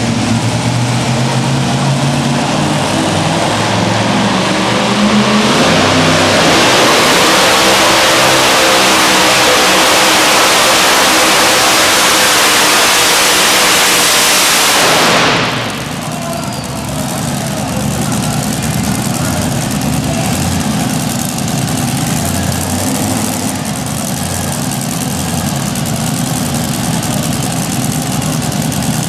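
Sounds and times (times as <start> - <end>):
supercharged engine revving: 0.0 - 29.0.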